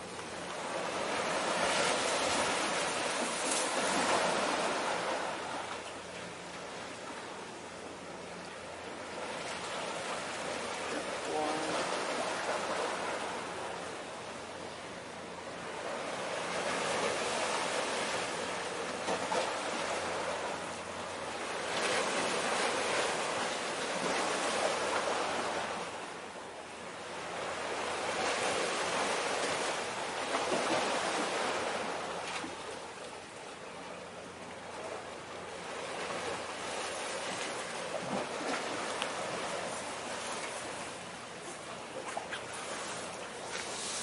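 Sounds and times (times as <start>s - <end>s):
small waves washing ashore: 0.0s - 44.0s.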